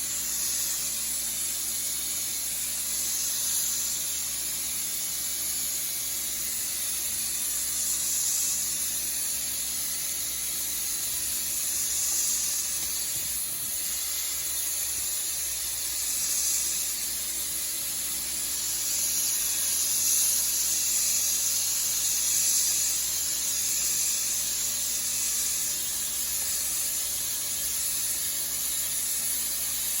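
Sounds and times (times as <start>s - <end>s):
blasting nozzle hissing: 0.0s - 30.0s.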